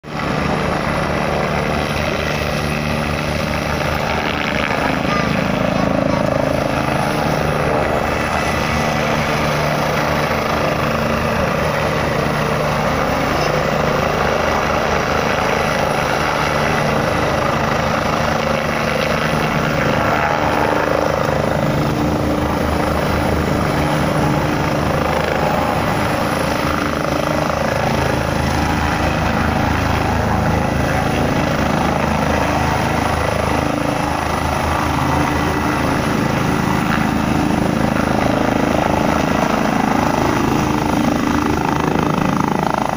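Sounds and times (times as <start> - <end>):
helicopter rotor beating: 0.0 - 42.9.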